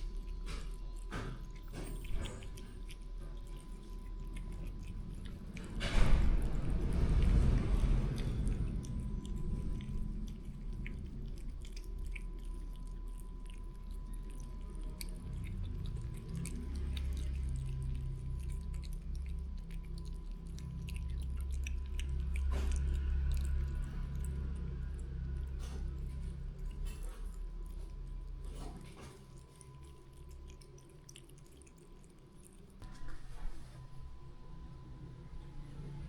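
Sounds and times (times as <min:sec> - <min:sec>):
cat chewing food: 0:00.0 - 0:34.6.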